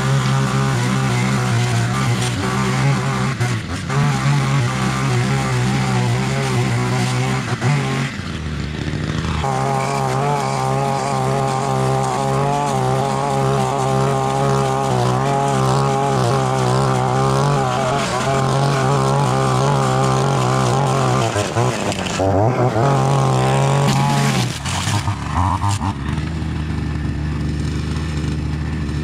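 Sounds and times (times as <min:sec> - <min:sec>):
string trimmer cutting grass: 0:00.0 - 0:29.0.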